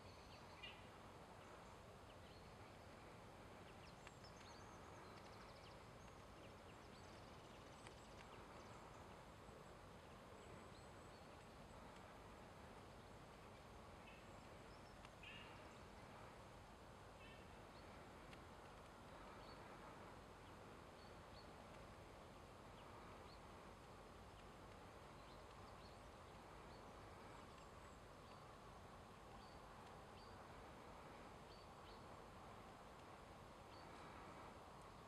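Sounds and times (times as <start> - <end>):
faint outdoor hiss: 0.0 - 35.0
small birds chirping: 0.0 - 35.0.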